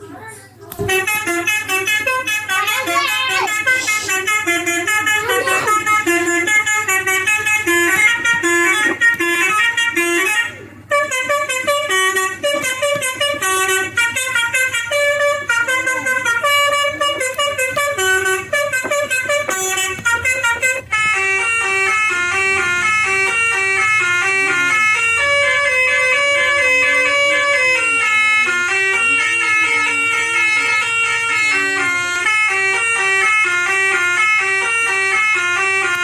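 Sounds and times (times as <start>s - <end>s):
electronic bus horn tune: 0.8s - 36.0s.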